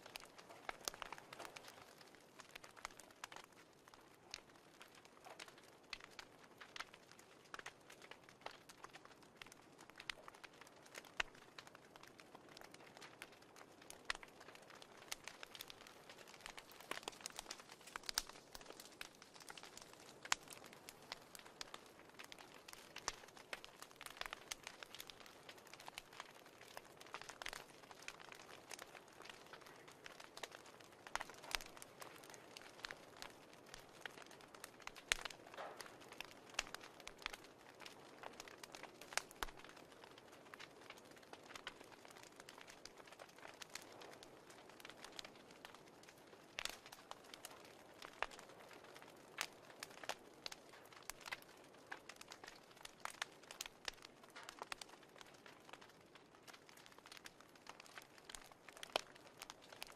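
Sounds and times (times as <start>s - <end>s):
faint wood fire crackling: 0.0s - 59.9s.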